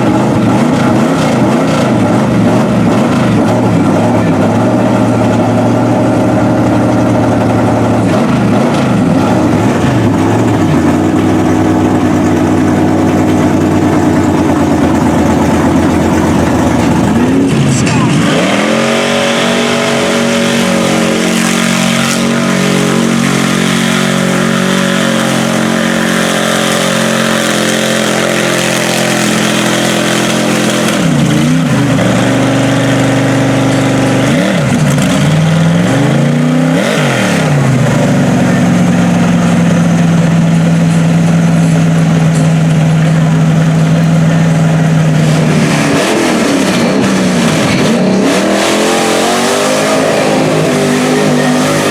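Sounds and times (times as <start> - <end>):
truck engine revving high: 0.0 - 51.9.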